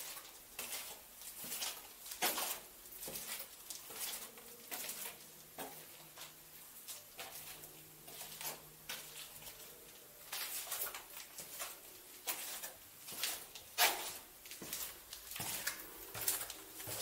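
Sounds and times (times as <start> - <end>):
footsteps crunching: 0.0 - 17.0.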